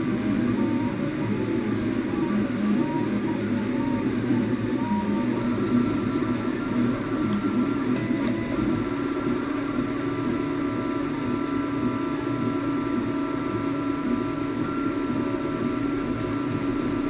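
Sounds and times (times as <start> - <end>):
printer mechanical hum and whine: 0.0 - 17.0.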